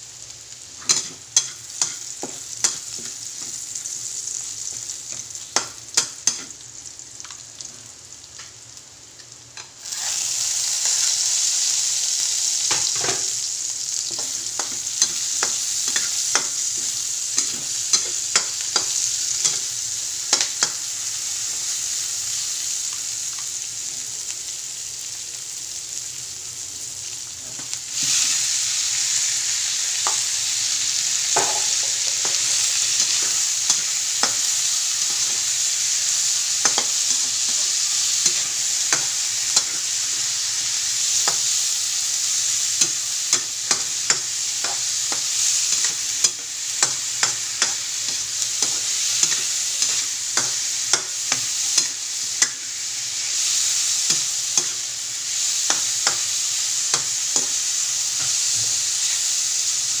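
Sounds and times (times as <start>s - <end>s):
food sizzling in a wok: 0.0s - 60.0s.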